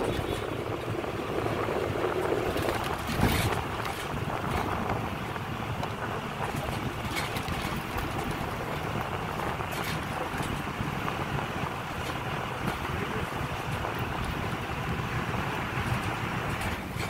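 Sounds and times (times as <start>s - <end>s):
vehicle road and engine noise: 0.0s - 17.0s
wind buffeting microphone: 0.0s - 17.0s.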